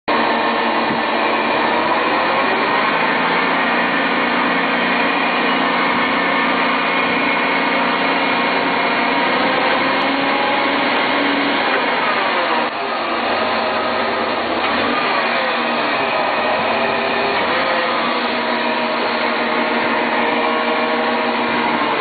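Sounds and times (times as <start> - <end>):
forklift hydraulic drone and whine: 0.1 - 22.0.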